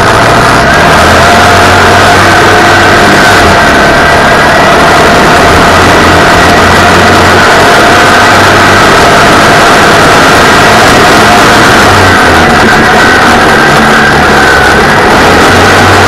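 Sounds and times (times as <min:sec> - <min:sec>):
buggy engine running hard: 0:00.0 - 0:16.0
track noise: 0:00.0 - 0:16.0.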